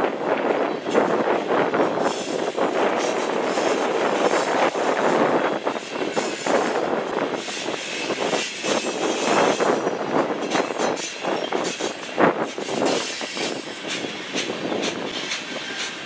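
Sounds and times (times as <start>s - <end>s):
freight train rolling past: 0.0s - 16.0s
train clanks and knocks: 0.0s - 16.0s.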